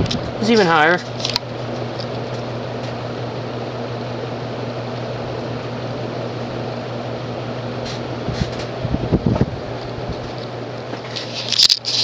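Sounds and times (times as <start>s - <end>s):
ceiling fan air rush: 0.0s - 12.0s
fan motor hum: 0.0s - 12.0s.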